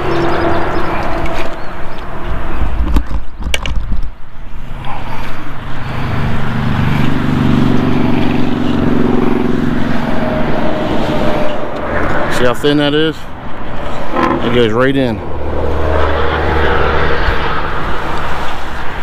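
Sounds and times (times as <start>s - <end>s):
rumbling outdoor background: 0.0s - 19.0s
vehicle engine humming: 0.0s - 19.0s.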